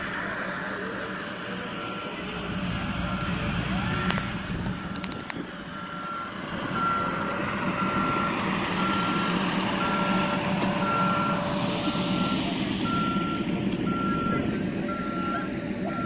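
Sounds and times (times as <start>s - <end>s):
outdoor background noise: 0.0s - 16.0s
reversing alarm beeping: 1.6s - 16.0s.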